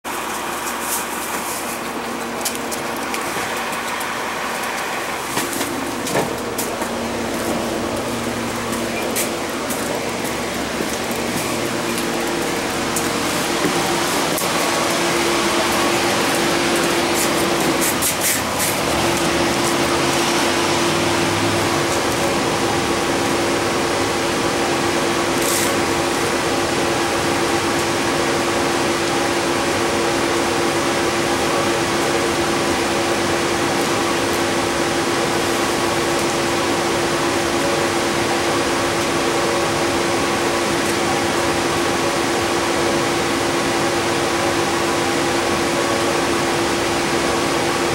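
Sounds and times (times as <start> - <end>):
bus engine and ventilation hum: 0.1 - 47.9.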